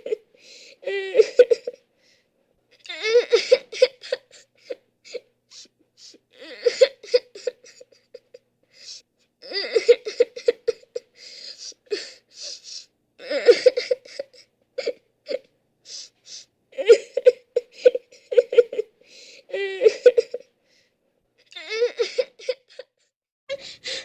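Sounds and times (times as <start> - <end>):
person sobbing: 0.0 - 1.8, 2.8 - 20.5.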